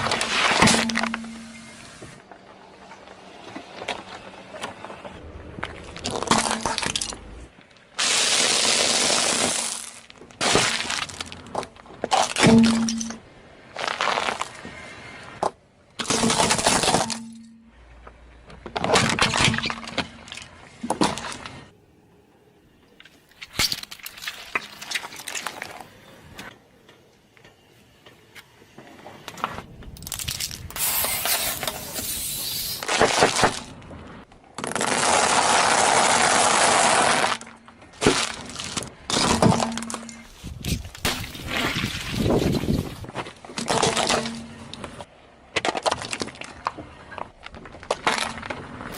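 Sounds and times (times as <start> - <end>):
objects crunching under car tyres: 0.0 - 21.8, 22.9 - 26.5, 28.8 - 48.9.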